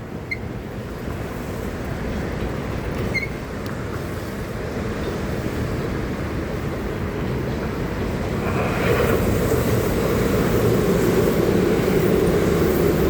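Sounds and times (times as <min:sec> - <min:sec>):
bicycle tyres on wet road: 0:00.3 - 0:13.0.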